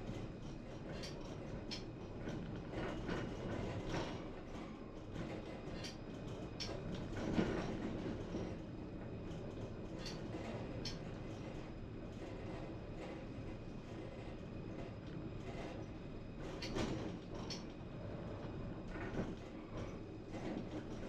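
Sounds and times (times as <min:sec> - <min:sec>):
tram rumbling: 0:00.0 - 0:21.0
tram wheels clicking and knocking: 0:00.1 - 0:17.9, 0:18.7 - 0:21.0.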